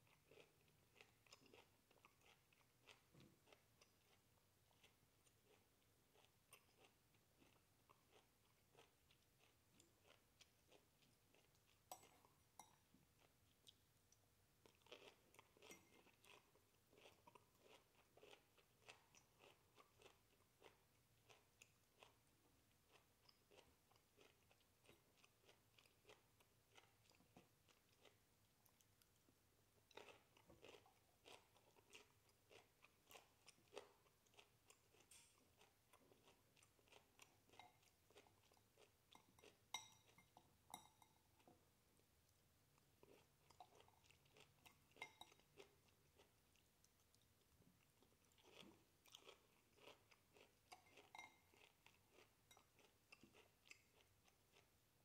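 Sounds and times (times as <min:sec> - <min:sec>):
chewing crunchy broccoli: 0:00.0 - 0:55.0.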